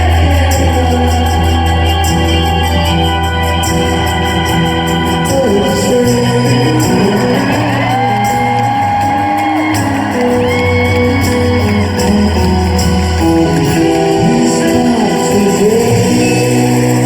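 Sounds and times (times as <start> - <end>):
drums: 0.0 - 17.0
electric guitar: 0.0 - 17.0
organ: 0.0 - 17.0
person singing long notes: 0.0 - 17.0.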